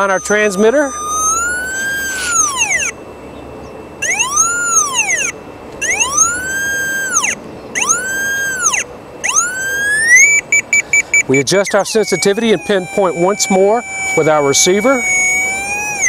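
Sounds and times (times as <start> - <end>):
locator tone sliding in pitch: 0.0 - 16.0.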